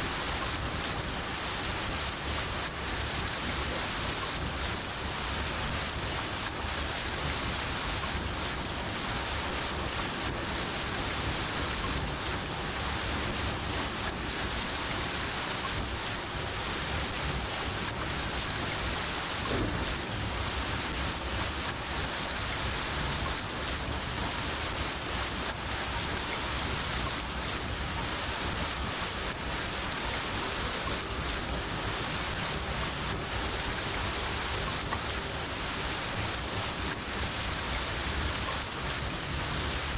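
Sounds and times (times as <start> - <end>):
crickets chirping: 0.0 - 39.9
steady rain hiss: 0.0 - 39.9.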